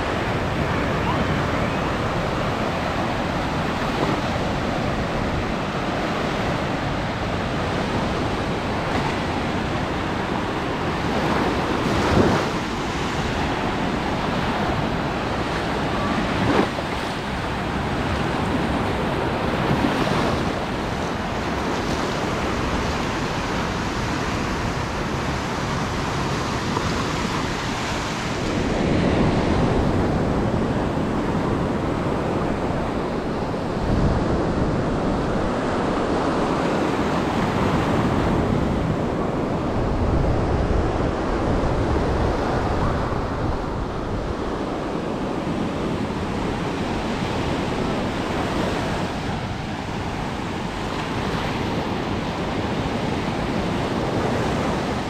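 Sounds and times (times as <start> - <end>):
small waves breaking on shore: 0.0 - 55.0
wind rumbling on microphone: 0.0 - 55.0.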